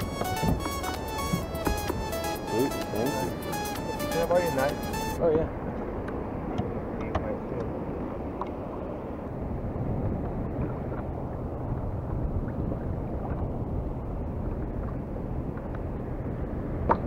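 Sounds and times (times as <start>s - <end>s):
water lapping against hull: 0.0s - 17.0s
wind on microphone: 0.0s - 17.0s.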